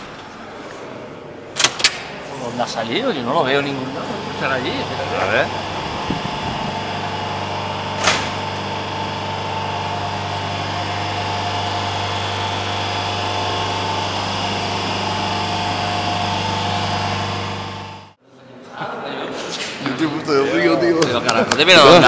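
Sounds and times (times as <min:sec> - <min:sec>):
train machinery humming: 0:00.0 - 0:18.2.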